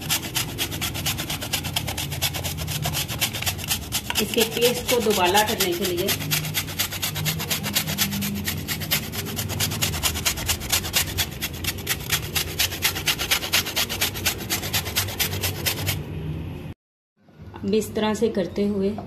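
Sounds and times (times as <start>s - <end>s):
cheese scraping on metal grater: 0.0s - 16.1s.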